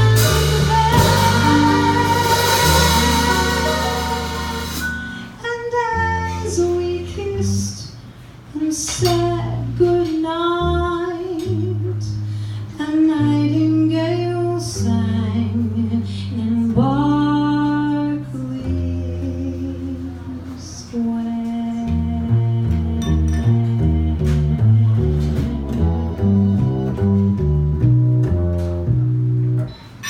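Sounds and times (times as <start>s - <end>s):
bass notes: 0.0s - 7.9s, 9.0s - 30.0s.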